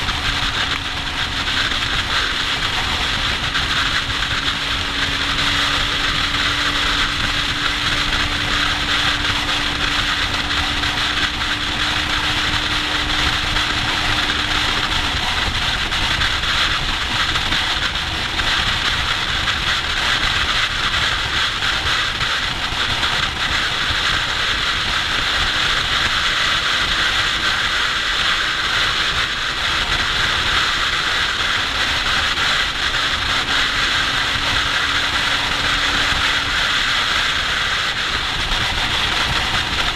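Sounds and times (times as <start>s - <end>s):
motorcycle engine droning: 0.0s - 39.9s
wind rushing over camera: 0.0s - 39.9s.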